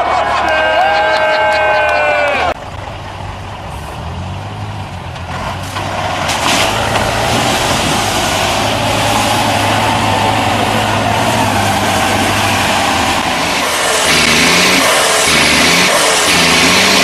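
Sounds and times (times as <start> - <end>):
truck engine running hard: 0.0 - 17.0.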